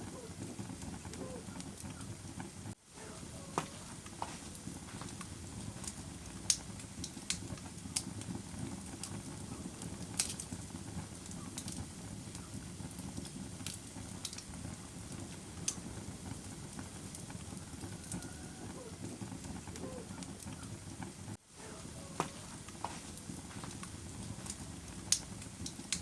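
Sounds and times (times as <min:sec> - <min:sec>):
fire rumbling: 0:00.0 - 0:26.0
wood crackling and popping: 0:00.0 - 0:26.0.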